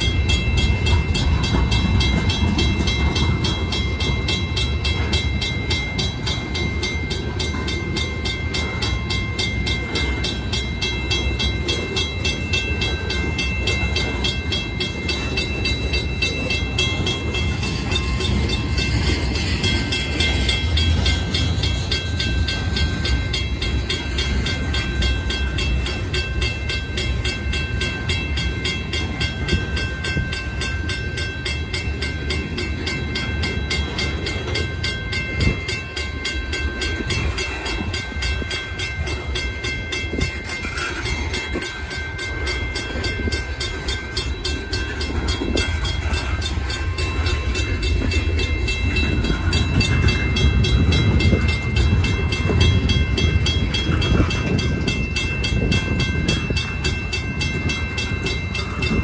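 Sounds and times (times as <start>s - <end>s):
train wheels rumbling on rail: 0.0s - 59.0s
wheels clicking over rail joints: 0.0s - 59.0s.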